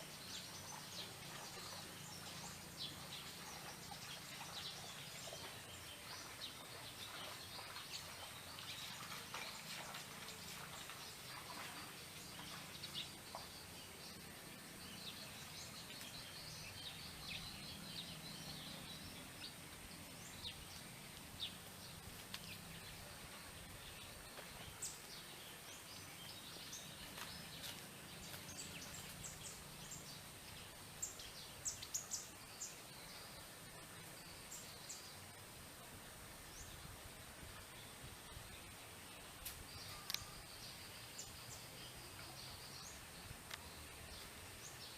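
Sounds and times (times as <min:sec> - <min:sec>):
birds and insects chirping: 0:00.0 - 0:44.9
low hum and hiss: 0:00.0 - 0:44.9.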